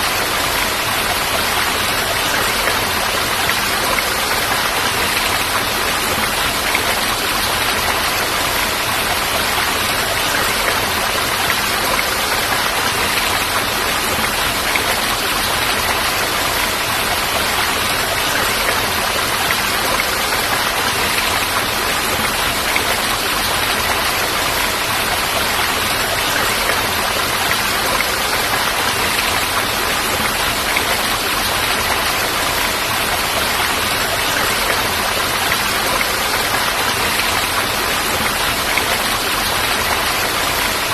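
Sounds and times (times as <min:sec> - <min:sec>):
falling water rushing: 0:00.0 - 0:40.9.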